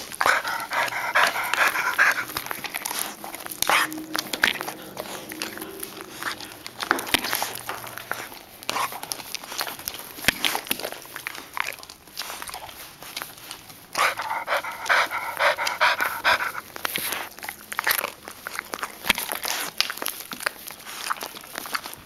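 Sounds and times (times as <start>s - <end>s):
collar clicks and rubbing: 0.0s - 22.0s
dog panting: 0.0s - 22.0s.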